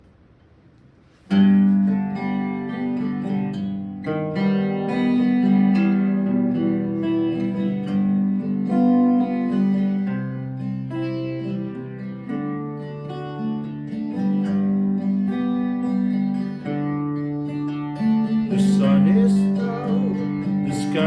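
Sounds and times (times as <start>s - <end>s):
guitar plucked notes and chords: 1.1s - 21.0s.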